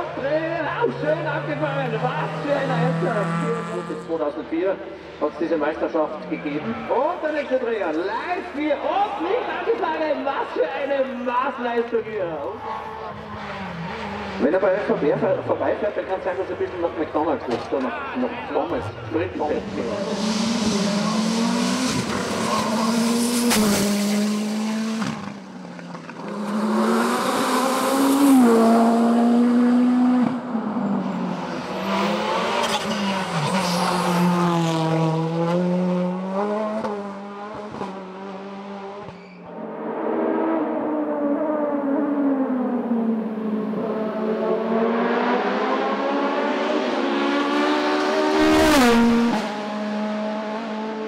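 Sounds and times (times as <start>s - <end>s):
race car engines at full throttle: 0.0s - 51.0s.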